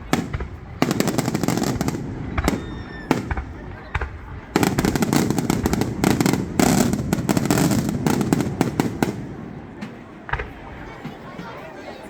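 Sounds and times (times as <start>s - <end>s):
fireworks bangs and crackling: 0.0s - 11.5s.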